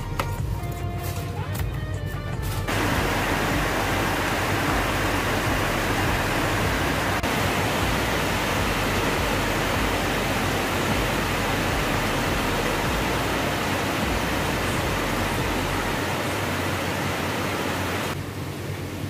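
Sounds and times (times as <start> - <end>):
rain on metal roof: 2.7 - 18.2.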